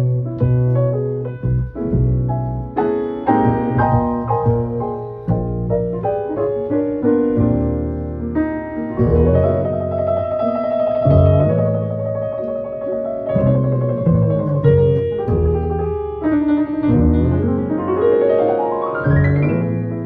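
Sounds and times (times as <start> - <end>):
jazz piano: 0.0 - 20.0
plucked double bass: 0.0 - 20.0.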